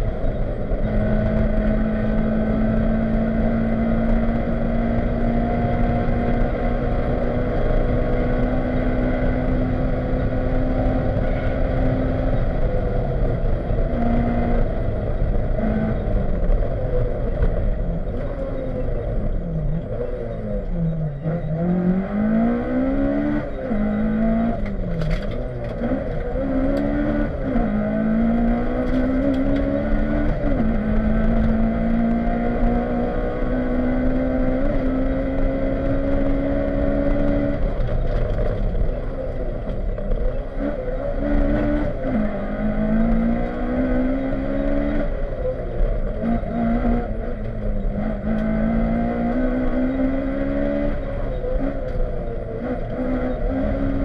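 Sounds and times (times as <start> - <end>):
car engine revving through gears: 0.0 - 54.0
road and tyre noise: 0.0 - 54.0.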